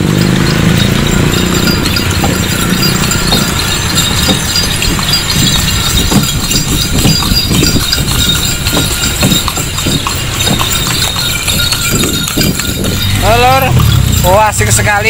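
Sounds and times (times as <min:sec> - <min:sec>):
hooves clip-clopping on pavement: 0:00.0 - 0:15.0.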